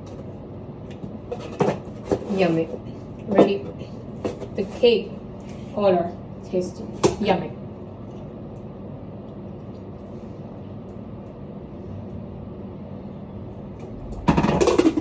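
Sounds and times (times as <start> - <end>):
faint steady hum: 0.0 - 15.0
low background rumble: 0.0 - 15.0.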